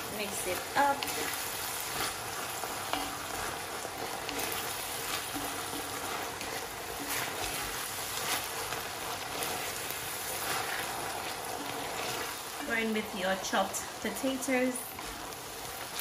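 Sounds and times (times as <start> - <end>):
meat and vegetables sizzling: 0.0 - 16.0
wooden spoon scraping pan: 0.1 - 12.9.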